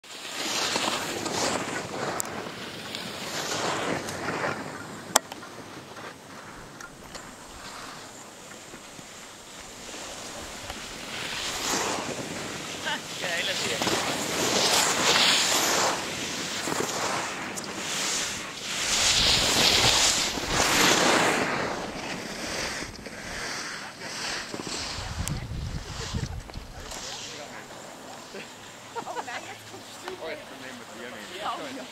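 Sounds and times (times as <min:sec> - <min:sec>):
skis scraping on snow: 0:00.0 - 0:31.9
wind rushing over microphone: 0:00.9 - 0:28.0.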